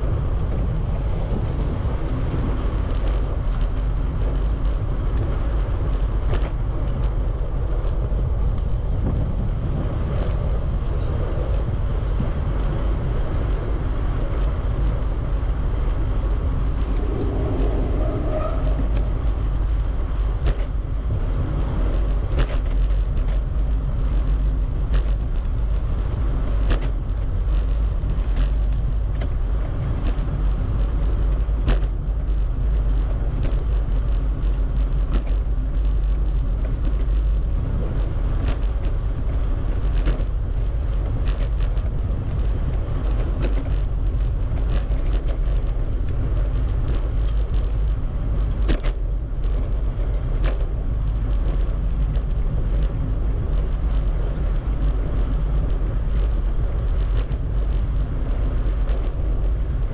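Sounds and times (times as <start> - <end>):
road noise: 0.0 - 59.9
traffic noise: 0.0 - 59.9
wind noise on microphone: 0.0 - 59.9.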